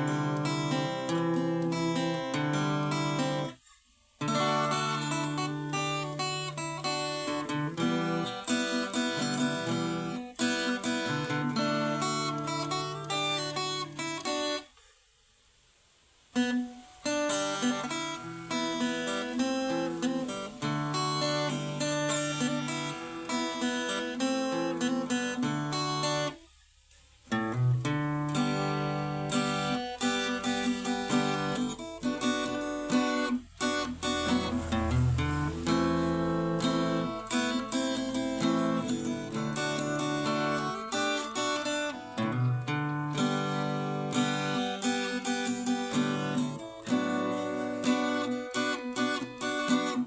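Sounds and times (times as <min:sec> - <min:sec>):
acoustic guitar playing: 0:00.0 - 0:14.8, 0:16.3 - 0:50.0.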